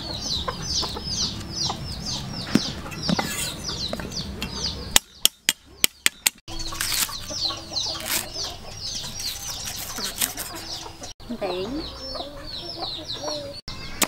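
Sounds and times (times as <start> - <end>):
chickens peeping and clucking: 0.0 - 14.0.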